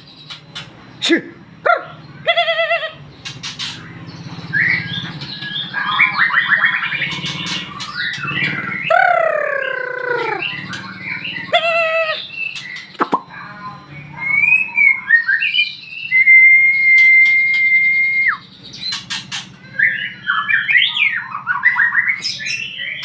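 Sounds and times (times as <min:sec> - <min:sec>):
bird singing chirps and trills: 0:00.0 - 0:23.0.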